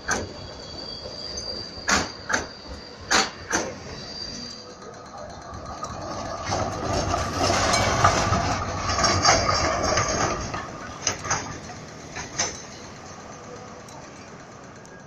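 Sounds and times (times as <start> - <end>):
tram wheels rumbling and clacking: 0.0 - 15.0.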